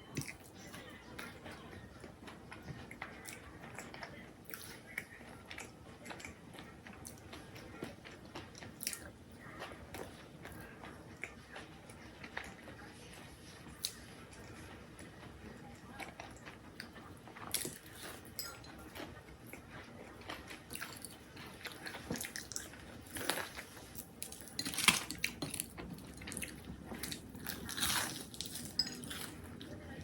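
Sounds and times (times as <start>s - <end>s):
person chewing crunchy food: 2.6s - 12.7s, 16.0s - 30.0s.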